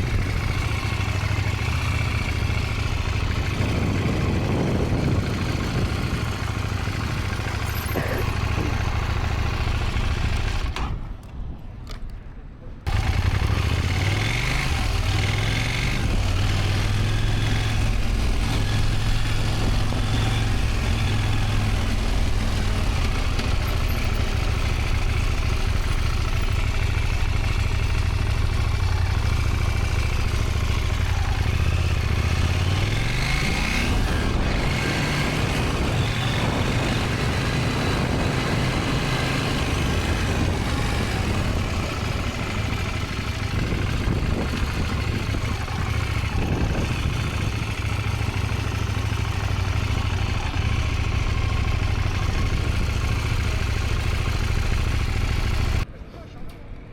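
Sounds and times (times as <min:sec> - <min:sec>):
motorcycle engine revving: 0:00.0 - 0:10.8, 0:12.9 - 0:55.9.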